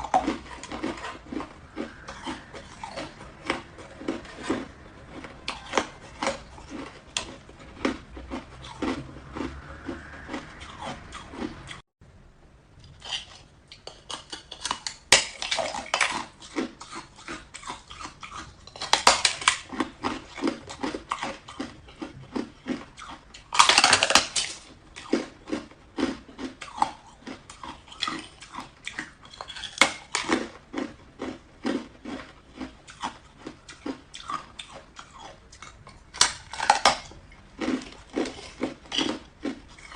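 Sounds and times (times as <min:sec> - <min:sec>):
ice being chewed: 0:00.0 - 0:11.8, 0:12.8 - 0:39.9.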